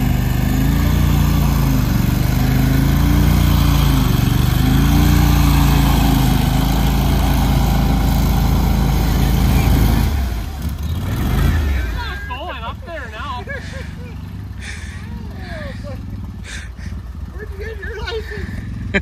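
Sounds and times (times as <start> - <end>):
vehicle engine running hard: 0.0 - 19.0.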